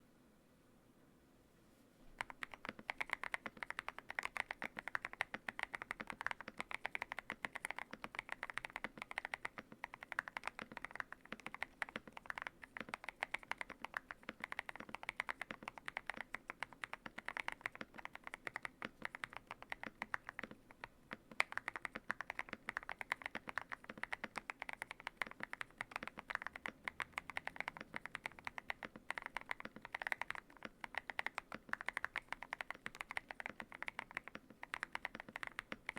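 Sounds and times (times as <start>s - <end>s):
fast mechanical keyboard typing: 2.2s - 35.9s.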